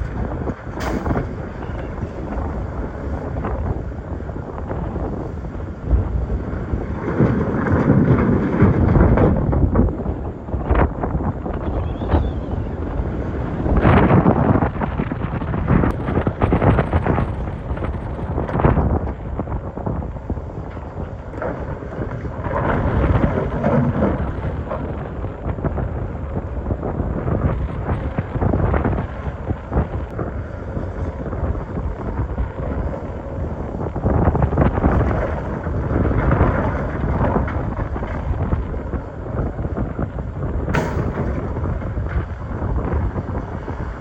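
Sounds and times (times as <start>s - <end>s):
heavy engine under load: 0.0s - 44.0s
rocks grinding and rumbling: 0.0s - 44.0s.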